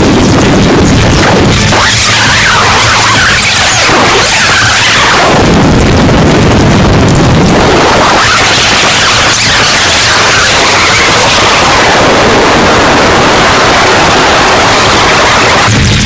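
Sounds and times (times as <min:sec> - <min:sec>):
distorted turntable noise: 0:00.0 - 0:16.0
sweeping pitch glides: 0:00.2 - 0:16.0.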